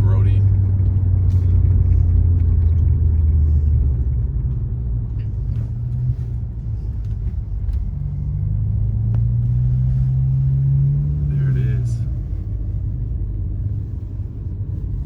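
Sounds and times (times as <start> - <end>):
car engine droning inside car: 0.0 - 15.0.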